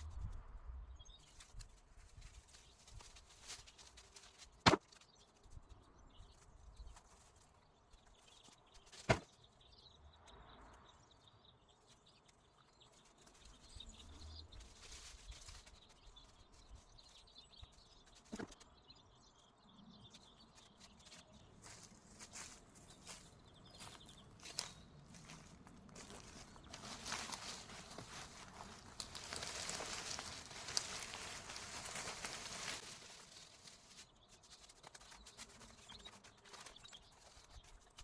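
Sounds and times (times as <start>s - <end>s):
faint outdoor background: 0.0s - 38.0s.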